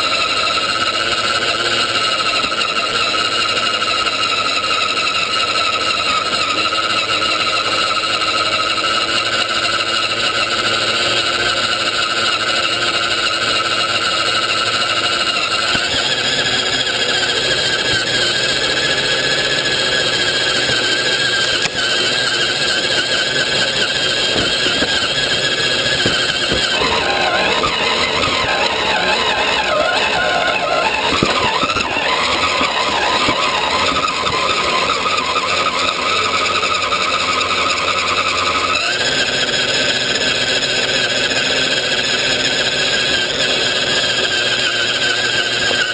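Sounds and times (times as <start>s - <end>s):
electric motor and gearbox whine: 0.0s - 45.9s.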